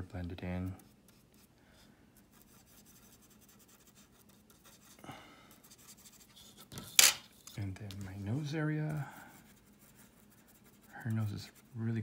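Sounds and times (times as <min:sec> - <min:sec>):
brush scratching on canvas: 0:00.0 - 0:12.0.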